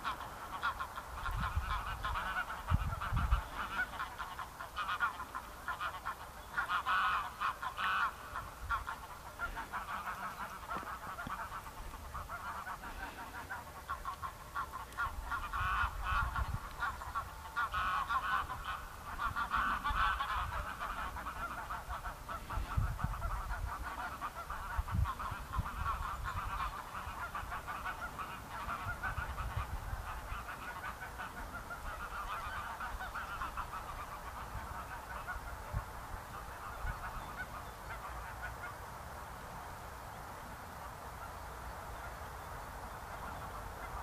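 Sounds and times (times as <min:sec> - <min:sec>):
water birds honking: 0:00.0 - 0:44.0.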